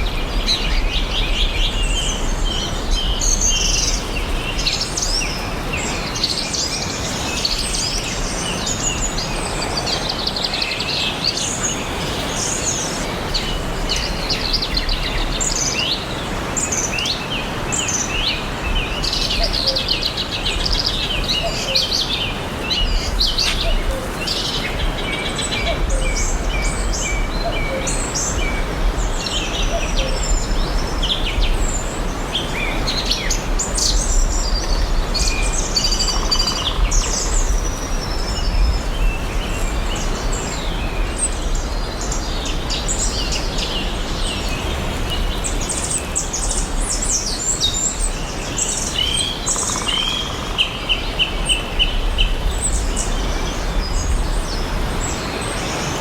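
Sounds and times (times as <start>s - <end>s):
small birds chirping and trilling: 0.0s - 56.0s.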